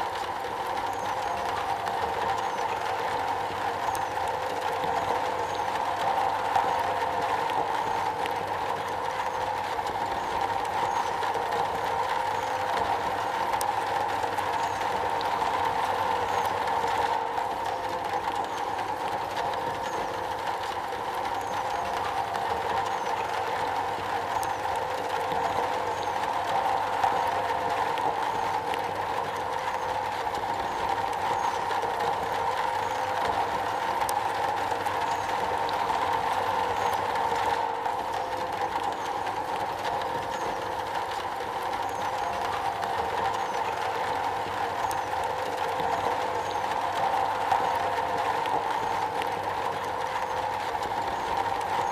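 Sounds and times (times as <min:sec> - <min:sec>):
rain on a metal roof: 0:00.0 - 0:51.9.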